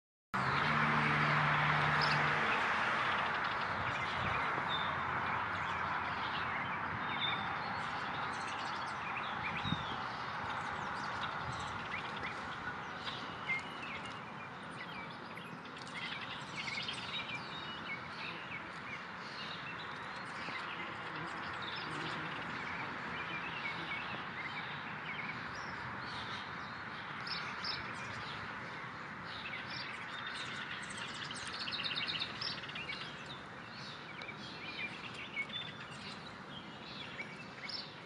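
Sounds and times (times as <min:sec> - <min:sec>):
small birds chirping: 0:01.9 - 0:38.0.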